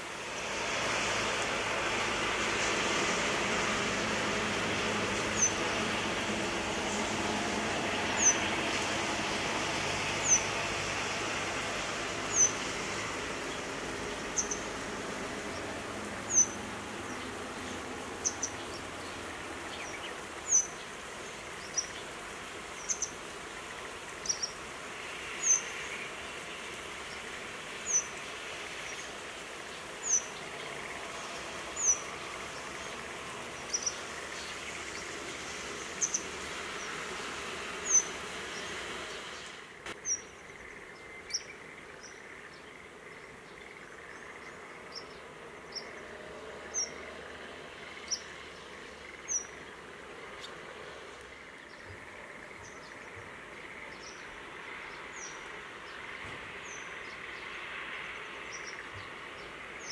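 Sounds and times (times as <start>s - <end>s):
rain hiss: 0.0s - 59.9s
road traffic: 0.0s - 59.9s.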